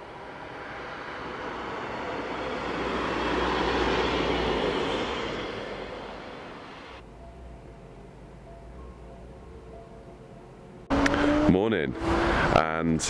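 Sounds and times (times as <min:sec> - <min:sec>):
truck driving past: 0:00.0 - 0:12.8.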